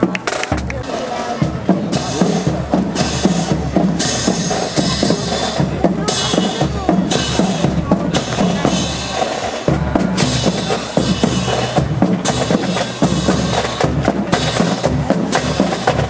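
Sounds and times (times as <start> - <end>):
bass drum and snare beat: 0.0 - 16.0
drum-heavy music: 0.0 - 16.0.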